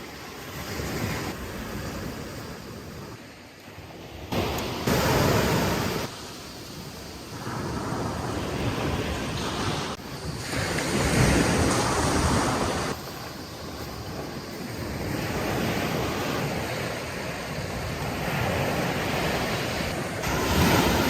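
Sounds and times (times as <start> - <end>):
sea waves washing ashore: 0.0 - 21.0.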